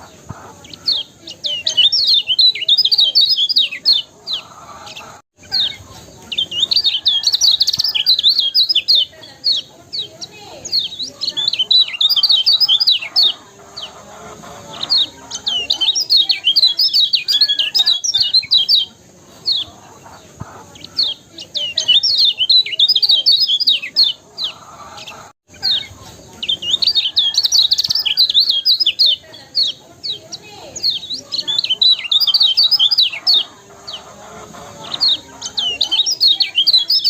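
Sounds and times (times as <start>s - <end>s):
bird twittering chirps: 0.0s - 37.0s.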